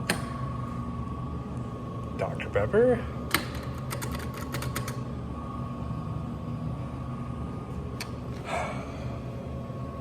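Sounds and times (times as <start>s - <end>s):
low mechanical hum with whine: 0.0s - 10.0s.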